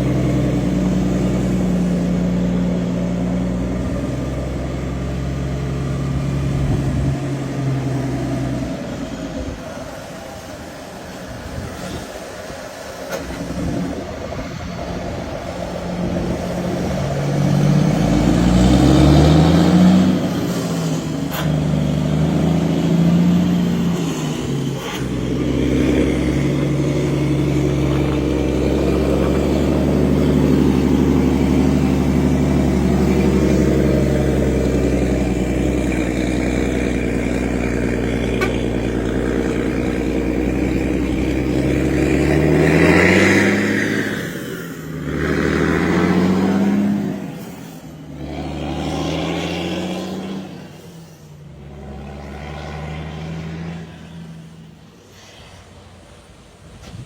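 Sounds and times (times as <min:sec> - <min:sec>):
truck diesel engine revving: 0:00.0 - 0:57.0.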